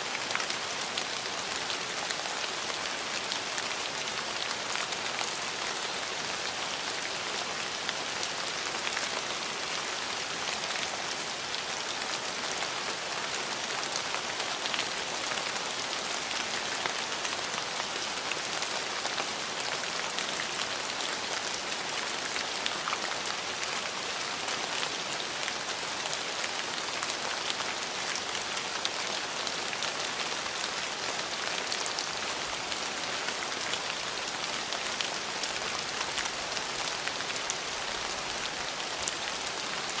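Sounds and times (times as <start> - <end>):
rain on hard surfaces: 0.0 - 40.0.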